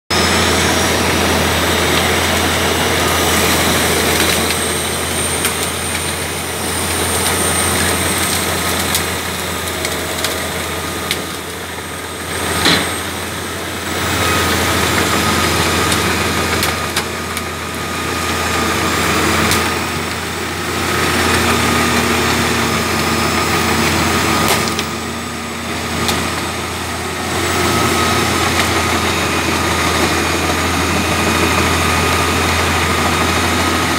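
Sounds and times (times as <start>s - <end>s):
diesel machinery running: 0.1s - 33.9s
wood chipper chipping: 0.1s - 33.9s.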